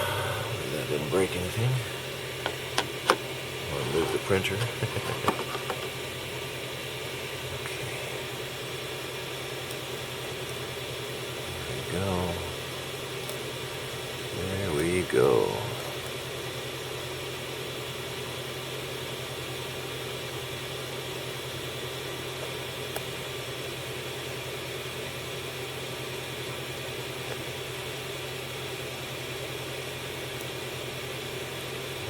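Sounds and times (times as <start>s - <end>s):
printer hum and fan hiss: 0.0s - 32.0s.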